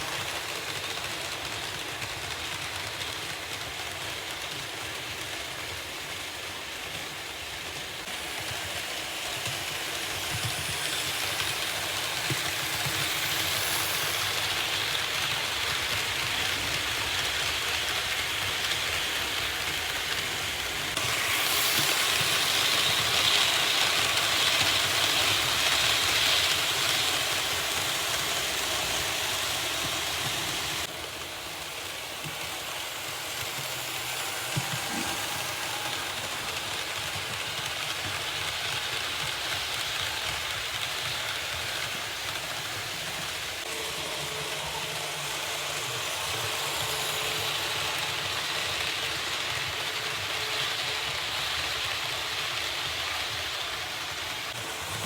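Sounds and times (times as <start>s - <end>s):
model train rattling along track: 0.0s - 55.0s.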